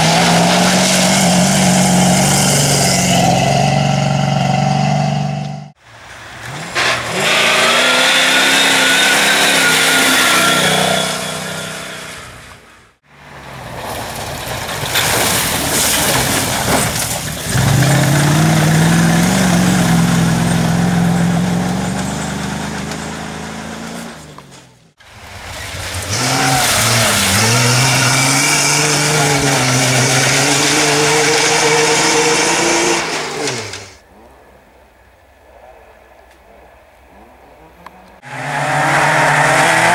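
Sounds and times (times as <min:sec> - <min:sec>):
rally car engines revving: 0:00.0 - 0:12.7, 0:13.4 - 0:34.0, 0:37.1 - 0:39.9.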